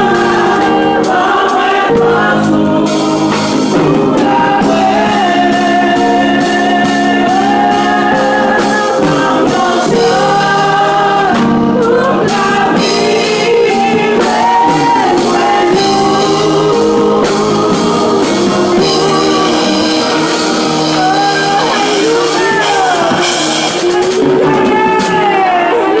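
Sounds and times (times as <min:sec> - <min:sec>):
gospel singing with instruments: 0:00.0 - 0:26.0.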